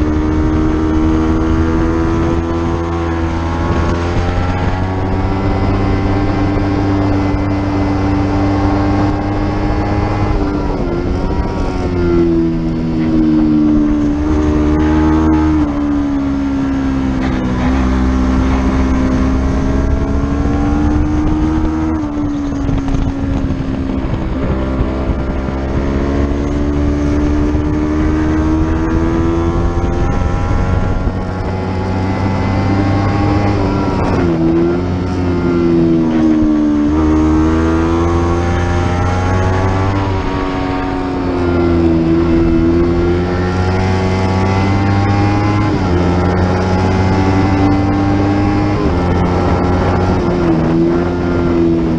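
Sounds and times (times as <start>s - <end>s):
racing motorcycle engine revving: 0.0s - 51.9s
wind noise: 0.0s - 51.9s.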